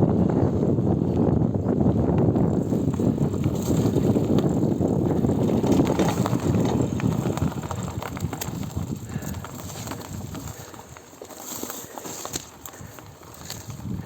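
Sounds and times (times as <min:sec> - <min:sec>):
bike tyres and frame rattling: 0:00.0 - 0:14.0.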